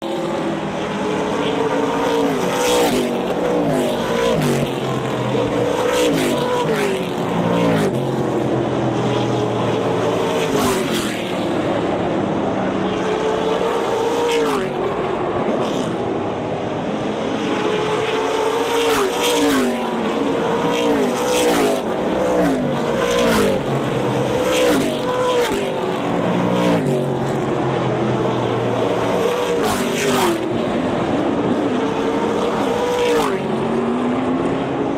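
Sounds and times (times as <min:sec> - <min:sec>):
race car engines revving: 0:00.0 - 0:34.9.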